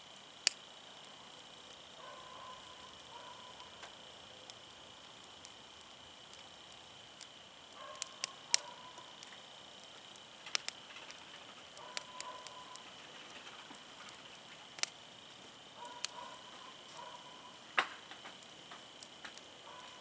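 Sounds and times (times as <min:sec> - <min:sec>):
low hiss: 0:00.0 - 0:20.0
wood fire crackling and popping: 0:00.0 - 0:20.0.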